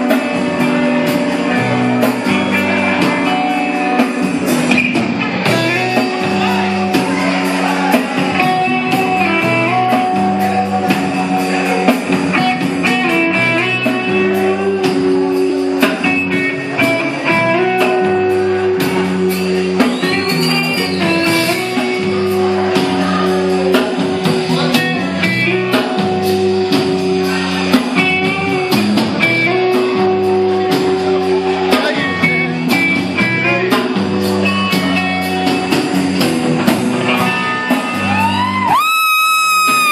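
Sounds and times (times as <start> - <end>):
low held bass notes: 0.0 - 38.8
drum kit: 0.0 - 39.9
electric guitar: 0.0 - 39.9.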